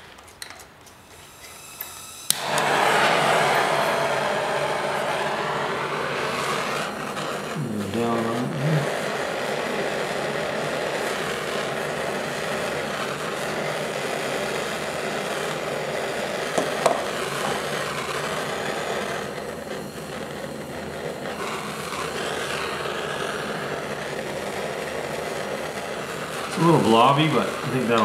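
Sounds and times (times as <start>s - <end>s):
torch flame hissing: 0.8s - 28.0s.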